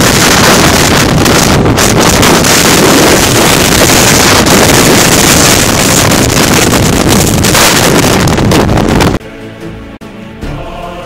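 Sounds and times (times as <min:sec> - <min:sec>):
strong wind roaring on microphone: 0:00.0 - 0:09.2.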